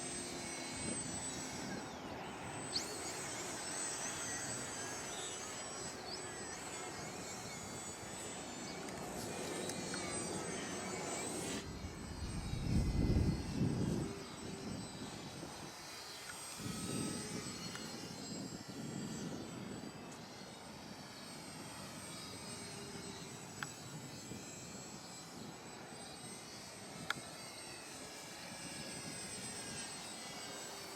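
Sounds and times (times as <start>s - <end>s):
model airplane motor whining: 0.0s - 30.9s.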